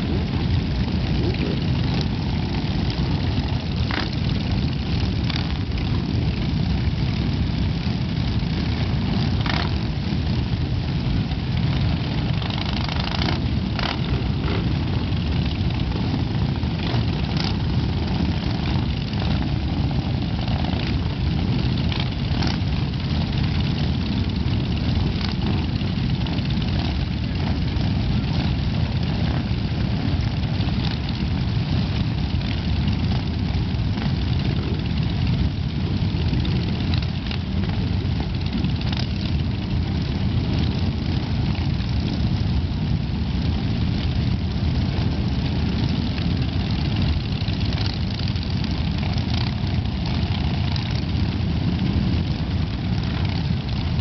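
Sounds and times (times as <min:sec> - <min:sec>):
motorcycle revving: 0:00.0 - 0:54.0.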